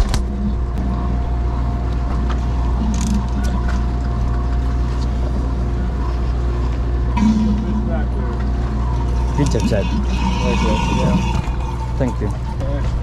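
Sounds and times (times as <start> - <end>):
boat engine droning: 0.0 - 13.0
faint constant tone: 0.0 - 13.0.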